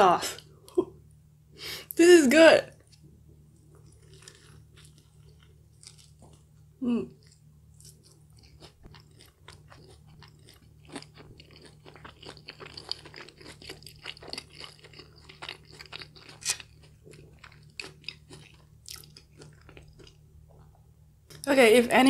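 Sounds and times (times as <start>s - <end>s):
chewing crunchy food: 2.8s - 21.5s.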